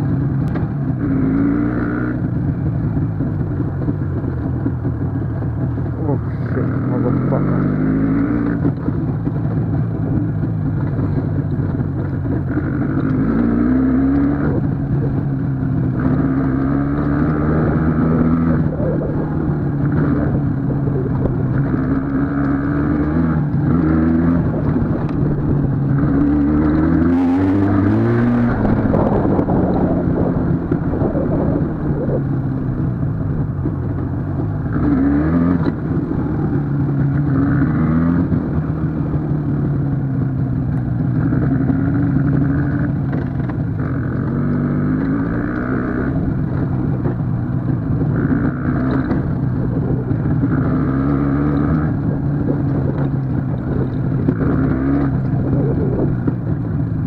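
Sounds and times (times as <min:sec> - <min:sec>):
vehicle engine shifting gears: 0:00.0 - 0:57.0.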